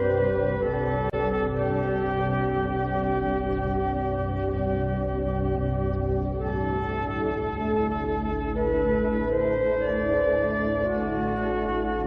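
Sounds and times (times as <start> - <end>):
ambient synthesizer music: 0.0 - 12.0.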